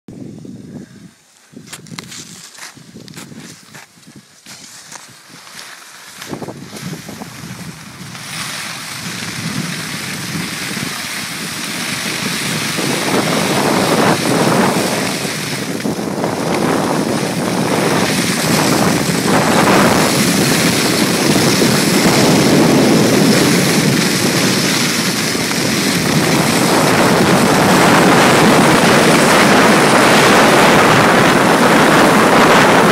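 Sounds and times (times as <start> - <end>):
wind on microphone: 0.1 - 32.9
skis scraping on snow: 1.4 - 32.9.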